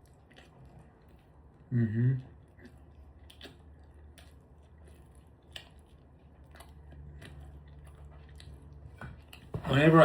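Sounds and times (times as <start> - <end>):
person chewing: 0.0 - 9.5
low background hum: 0.0 - 10.0.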